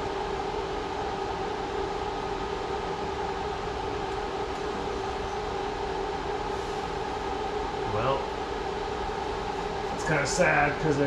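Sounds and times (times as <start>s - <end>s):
machine drone with hum: 0.0s - 11.0s.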